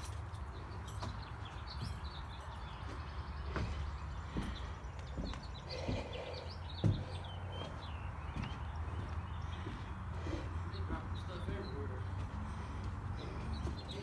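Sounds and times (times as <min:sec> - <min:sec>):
small birds chirping: 0:00.0 - 0:14.0
footsteps on wooden floor: 0:01.0 - 0:14.0.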